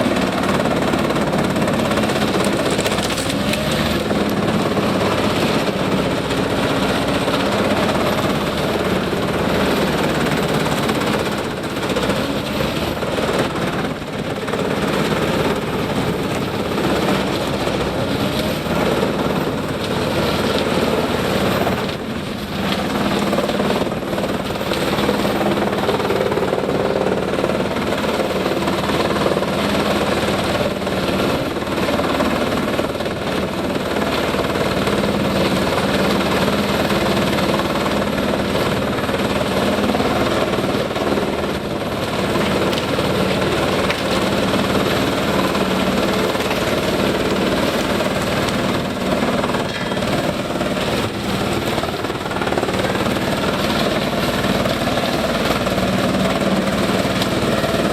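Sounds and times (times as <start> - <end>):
wood chipper diesel engine running: 0.0 - 57.9.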